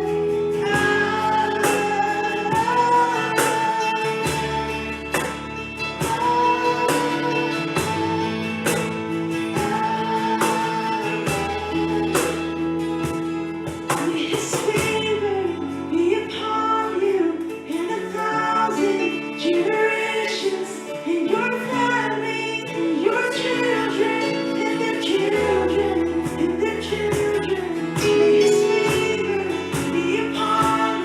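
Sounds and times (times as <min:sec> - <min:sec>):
female voice singing: 0:00.0 - 0:12.8, 0:13.9 - 0:31.0
guitar: 0:00.0 - 0:31.0
held keyboard chords: 0:00.0 - 0:31.0.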